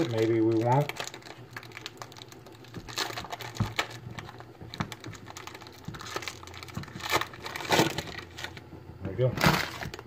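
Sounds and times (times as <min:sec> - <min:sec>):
foil wrapper crinkling and tearing: 0:00.0 - 0:08.6, 0:09.2 - 0:10.0.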